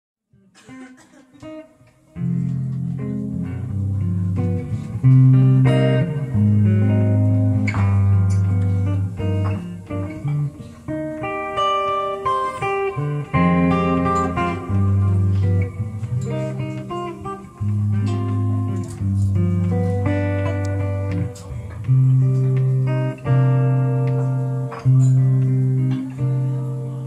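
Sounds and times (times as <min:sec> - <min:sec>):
plucked guitar: 0:00.3 - 0:27.0.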